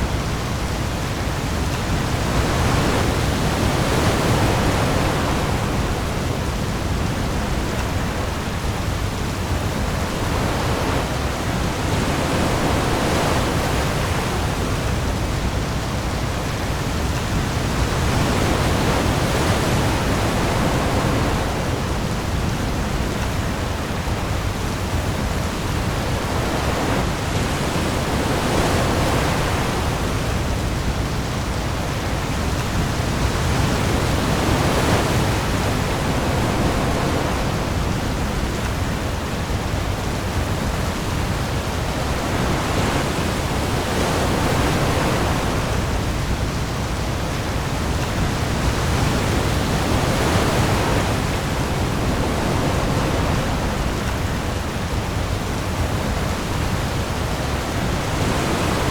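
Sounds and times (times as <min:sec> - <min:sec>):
heavy rain on sea: 0:00.0 - 0:58.9
waves: 0:00.0 - 0:58.9.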